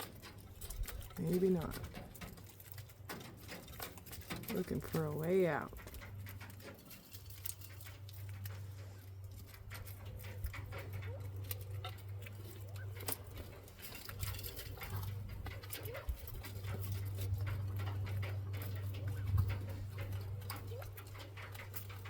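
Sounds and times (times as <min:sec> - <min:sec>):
low hum: 0:00.0 - 0:22.0
quail pecking and scratching: 0:00.0 - 0:22.0.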